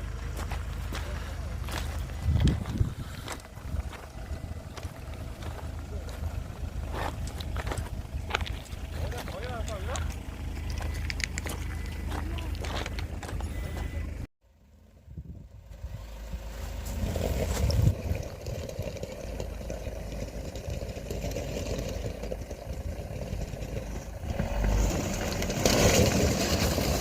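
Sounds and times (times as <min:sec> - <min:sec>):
engine running with low rumble: 0:00.0 - 0:27.0.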